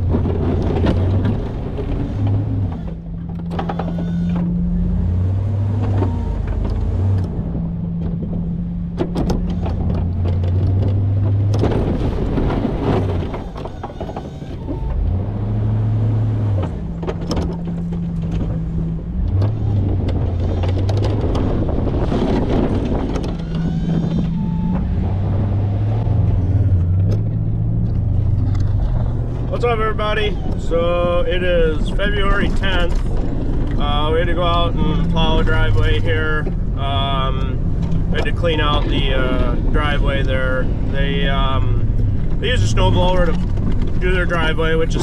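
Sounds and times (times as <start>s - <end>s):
knocks and clunks: 0.0s - 45.0s
truck engine revving: 0.0s - 45.0s.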